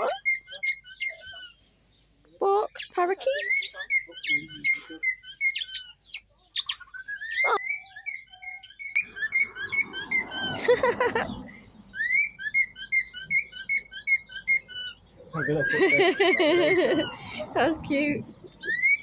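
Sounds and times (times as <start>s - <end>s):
parakeets chattering: 0.0s - 19.0s.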